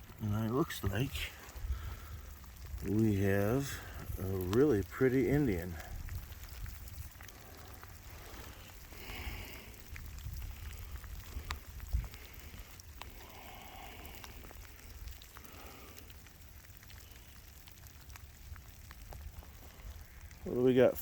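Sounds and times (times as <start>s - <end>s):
drops ticking: 0.0s - 21.0s
rain falling: 0.0s - 21.0s.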